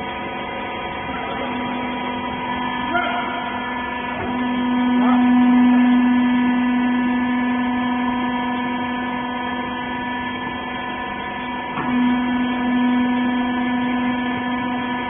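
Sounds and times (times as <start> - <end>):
hydraulic power unit humming: 0.0 - 15.0.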